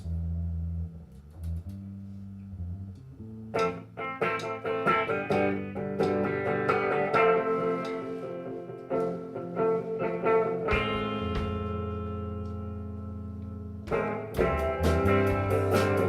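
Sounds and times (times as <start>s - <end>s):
guitar playing: 3.0s - 16.0s.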